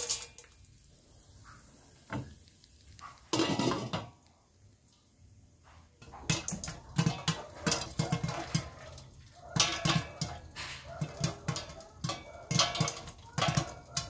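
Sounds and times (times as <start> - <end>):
popcorn popping in covered pot: 0.0 - 4.4, 6.0 - 14.0.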